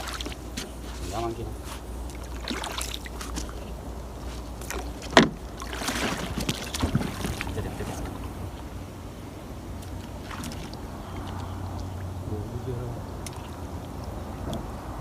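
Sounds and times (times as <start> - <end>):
steady low rumble: 0.0 - 15.0
water swishing around boat: 0.0 - 15.0.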